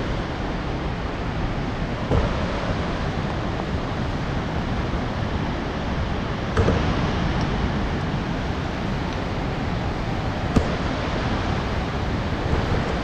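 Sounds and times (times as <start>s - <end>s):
waterfall rushing over rock: 0.0s - 13.0s.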